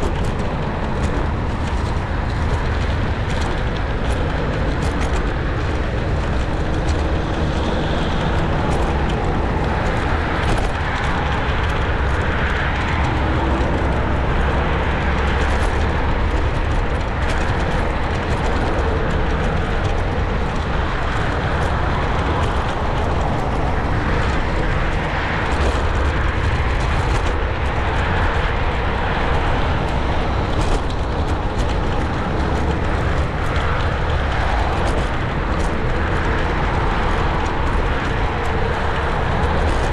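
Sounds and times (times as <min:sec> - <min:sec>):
motor traffic: 0:00.0 - 0:39.9
road noise: 0:00.0 - 0:39.9
wind rumble on microphone: 0:00.0 - 0:39.9.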